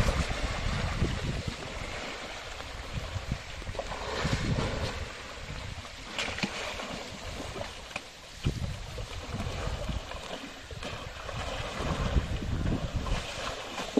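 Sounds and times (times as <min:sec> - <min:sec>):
water splashing and churning: 0:00.0 - 0:13.9.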